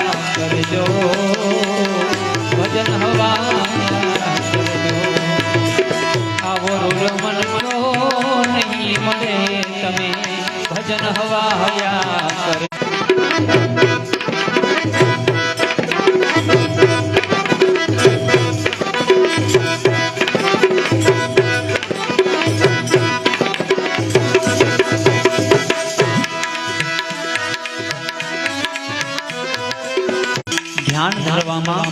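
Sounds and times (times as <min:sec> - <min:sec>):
sustained melody instrument: 0:00.0 - 0:31.9
tabla playing: 0:00.0 - 0:31.9.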